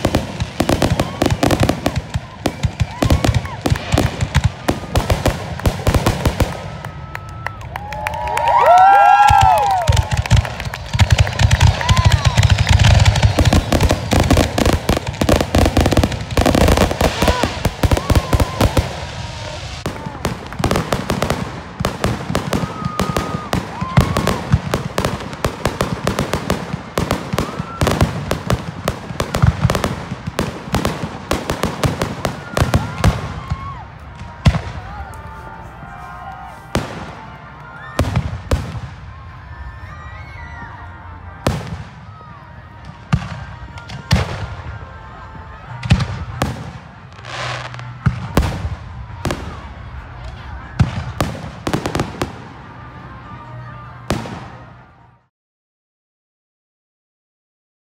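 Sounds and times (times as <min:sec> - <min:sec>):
fireworks bursts and crackling: 0:00.0 - 0:55.2.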